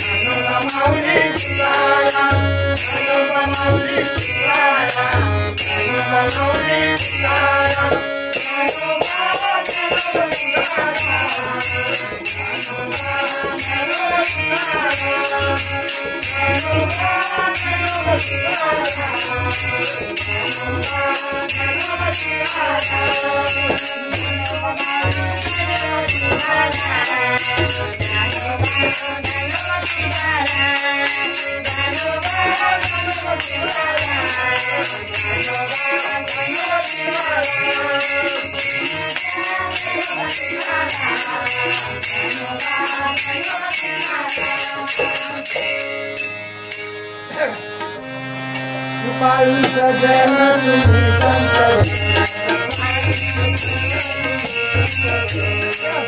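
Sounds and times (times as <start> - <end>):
group of women singing: 0.0 - 45.9, 49.0 - 56.0
fast jingling percussion: 0.0 - 48.8, 50.8 - 56.0.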